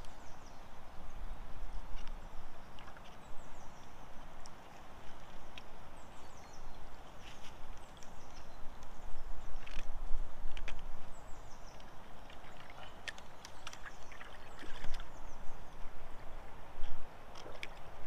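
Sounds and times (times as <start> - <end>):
wind rumble on microphone: 0.0 - 18.0
small birds chirping: 2.0 - 16.5.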